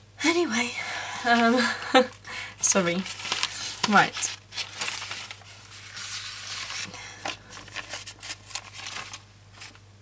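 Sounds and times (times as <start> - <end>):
paper sheets rustling: 1.3 - 9.8.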